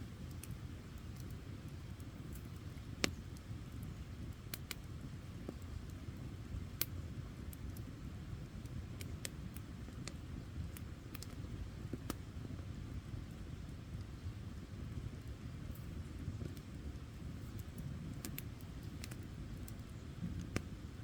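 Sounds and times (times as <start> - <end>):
burning wood crackling and popping: 0.0 - 21.0
campfire rumble: 0.0 - 21.0.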